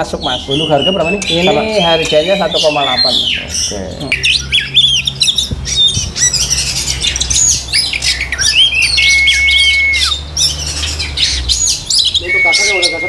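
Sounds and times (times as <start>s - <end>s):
songbirds chirping and whistling: 0.0s - 13.0s.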